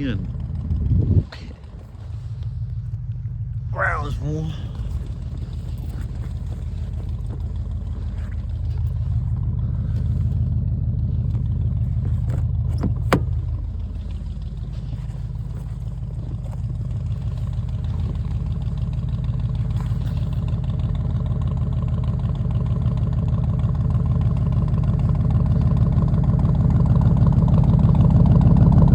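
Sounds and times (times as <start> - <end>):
pickup engine idling: 0.0 - 28.9.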